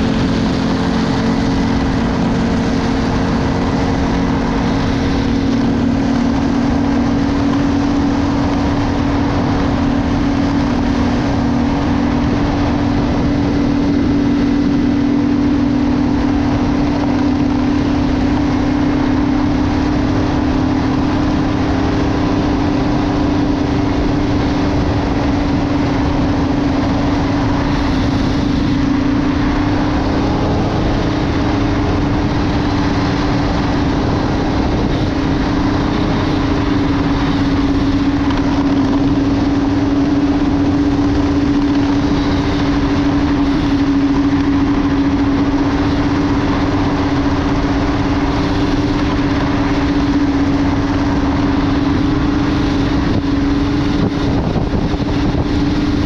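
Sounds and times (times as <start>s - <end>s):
broad rushing noise: 0.0s - 56.0s
snowmobile engine droning: 0.0s - 56.0s.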